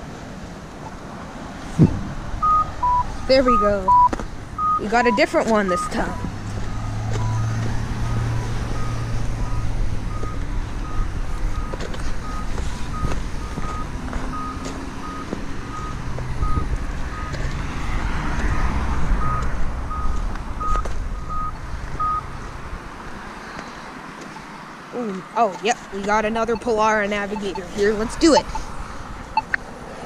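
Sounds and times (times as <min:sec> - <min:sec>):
traffic idling and passing: 0:00.0 - 0:30.0
pedestrian signal beeping: 0:01.8 - 0:17.5, 0:19.2 - 0:22.3, 0:24.3 - 0:29.7.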